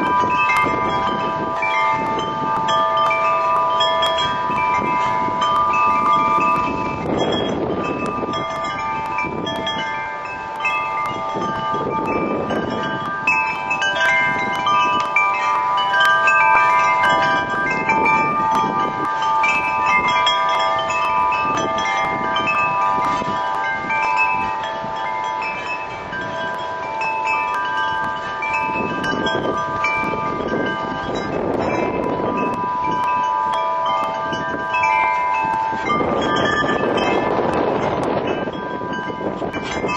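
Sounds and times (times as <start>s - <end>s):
wind buffeting microphone: 0.0s - 39.9s
wind chimes ringing: 0.0s - 39.9s.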